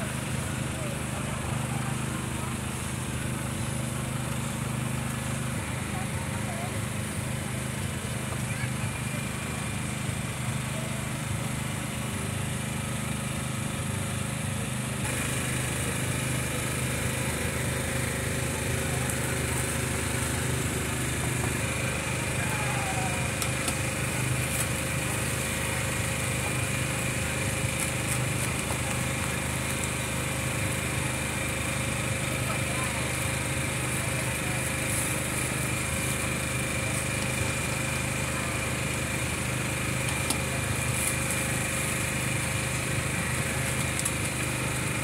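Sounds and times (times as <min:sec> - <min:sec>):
small engine droning: 0:00.0 - 0:45.0.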